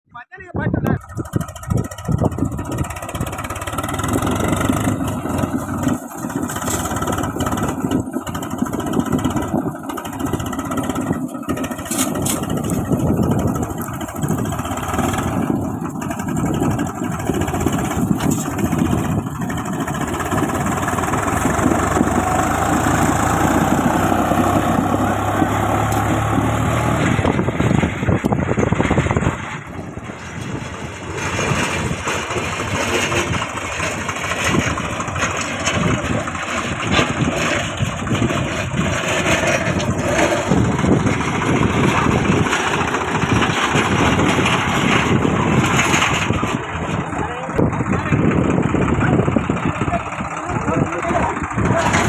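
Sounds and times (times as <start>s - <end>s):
tractor diesel engine running: 0.1s - 52.0s.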